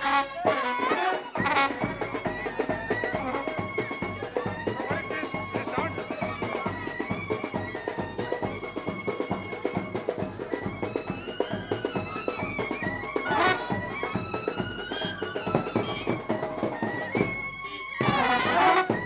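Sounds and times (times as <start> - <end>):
reedy wind instrument melody: 0.0 - 19.0.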